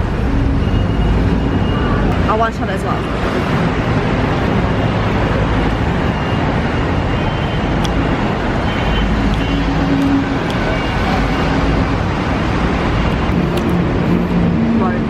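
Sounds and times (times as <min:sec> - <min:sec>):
street bustle: 0:00.0 - 0:15.0.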